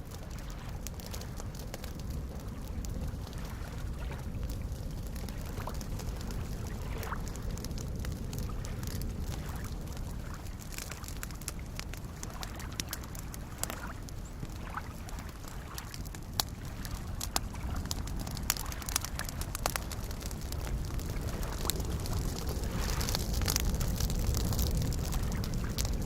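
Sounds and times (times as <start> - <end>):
campfire crackling and popping: 0.0 - 26.0
small waves lapping: 0.1 - 25.9.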